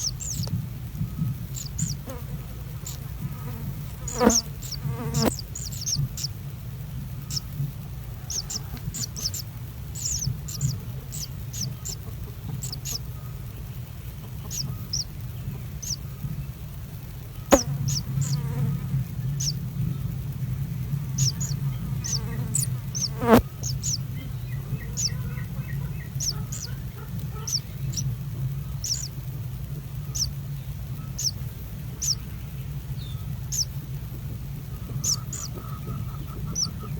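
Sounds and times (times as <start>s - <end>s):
small bird chirping: 0.0s - 29.3s, 30.0s - 33.8s, 34.6s - 36.9s
steady low hum: 0.0s - 36.9s.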